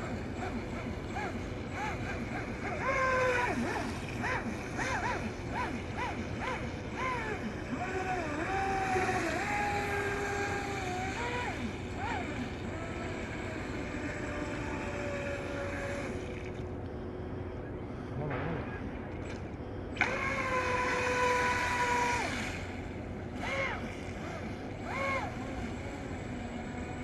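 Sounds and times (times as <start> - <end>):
speedboat engine running: 0.0 - 27.0.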